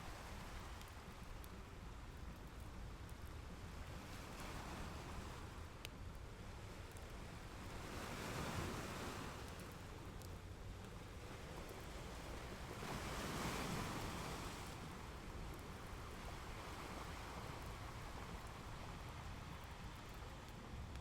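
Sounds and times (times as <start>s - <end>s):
ocean waves on a beach: 0.0s - 5.8s, 6.4s - 21.0s.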